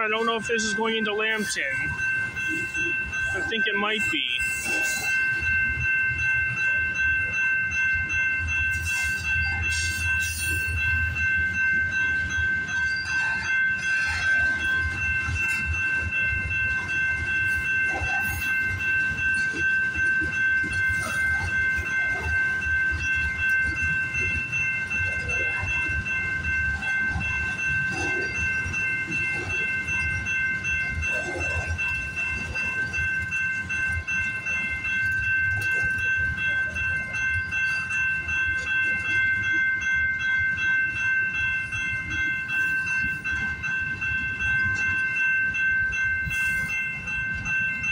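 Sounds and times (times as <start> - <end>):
crossing warning bell ringing: 0.0 - 47.9
freight train rumbling past: 0.0 - 47.9.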